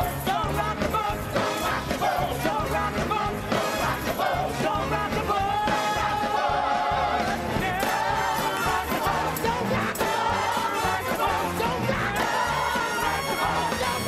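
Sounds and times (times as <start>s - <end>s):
ensemble singing show tune: 0.0s - 14.0s.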